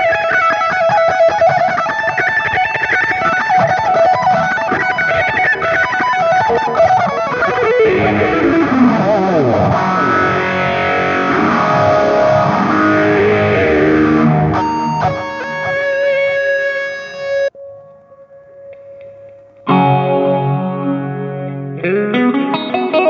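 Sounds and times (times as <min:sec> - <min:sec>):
electric guitar playing: 0:00.0 - 0:23.0.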